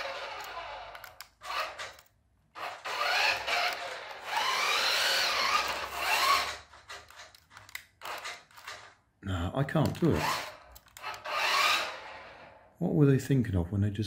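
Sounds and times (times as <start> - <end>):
toy car electric motor whining: 0.0 - 8.9, 10.0 - 12.7.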